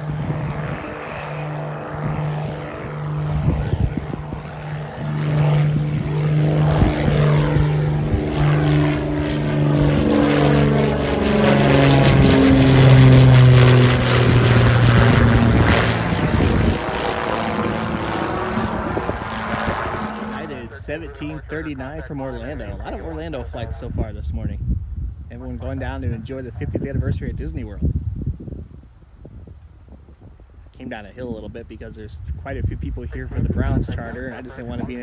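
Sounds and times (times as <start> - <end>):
propeller plane droning past: 0.0 - 35.0.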